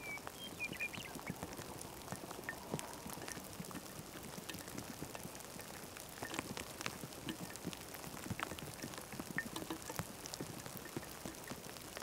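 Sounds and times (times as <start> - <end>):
faint steady hiss: 0.0 - 12.0
raindrops ticking: 0.0 - 12.0.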